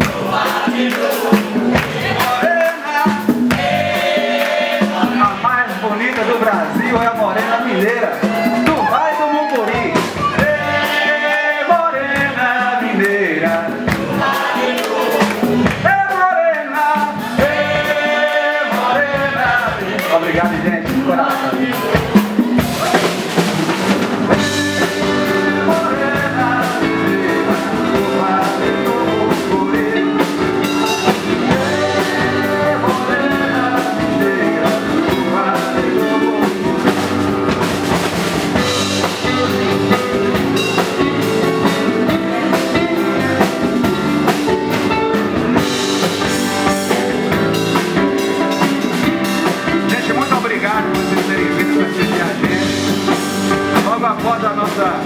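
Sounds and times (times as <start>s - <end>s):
band music with drum beat: 0.0s - 55.0s
person singing: 4.4s - 23.2s, 24.3s - 37.6s, 38.6s - 55.0s.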